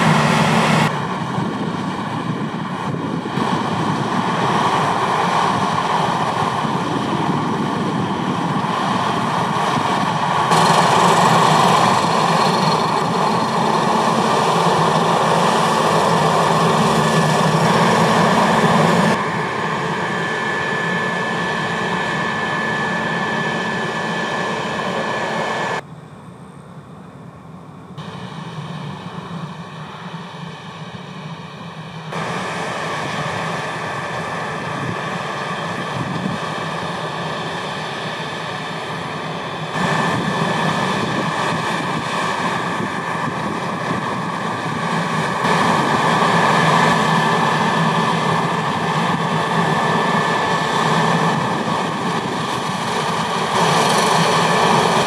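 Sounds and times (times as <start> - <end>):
tractor engine: 0.0 - 25.8, 28.0 - 55.0
combine harvester running: 0.0 - 55.0
steady high whine: 0.0 - 55.0.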